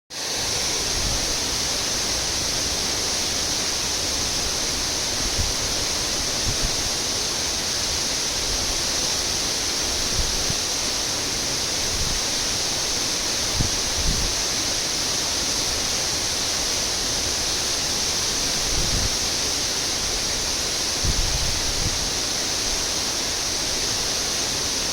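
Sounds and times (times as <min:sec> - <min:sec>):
waterfall rushing: 0:00.2 - 0:24.9.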